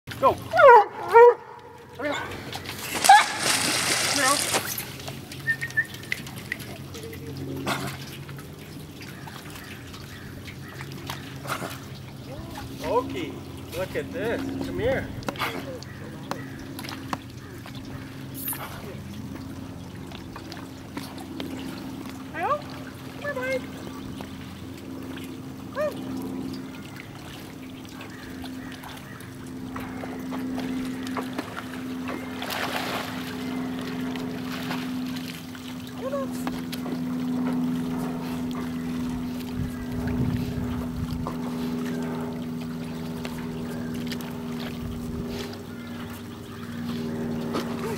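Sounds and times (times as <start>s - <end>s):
low steady hum: 0.1s - 47.9s
dog splashing through water: 0.4s - 12.8s, 20.4s - 47.9s.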